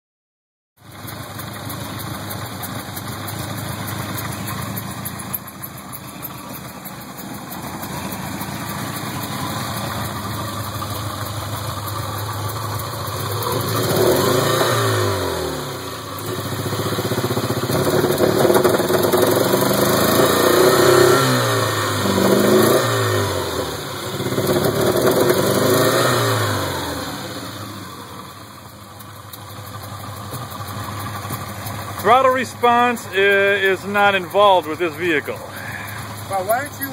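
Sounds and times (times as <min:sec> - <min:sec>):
car engine idling and revving: 0:00.8 - 0:36.9.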